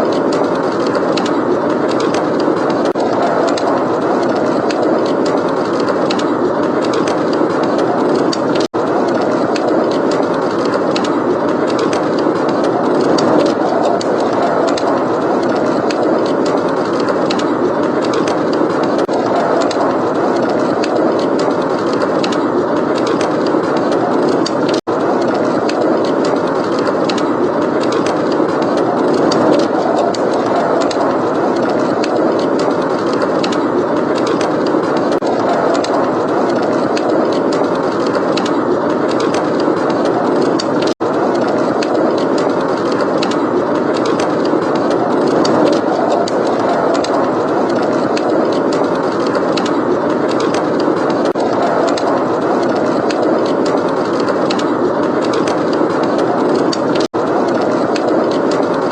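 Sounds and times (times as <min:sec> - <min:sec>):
blizzard wind rushing: 0:00.0 - 0:58.9
fireplace crackling: 0:00.0 - 0:58.9.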